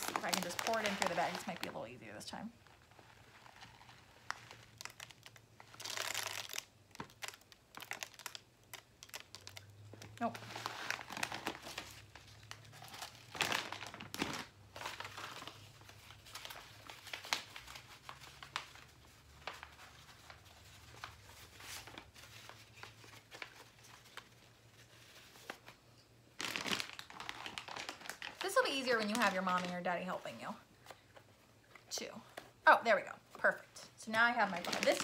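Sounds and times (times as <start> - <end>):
paper rustling: 0.0 - 1.9, 2.6 - 25.8, 26.4 - 31.3, 34.4 - 35.0
plastic bag crinkling: 0.0 - 25.7, 26.4 - 30.6, 34.1 - 35.0.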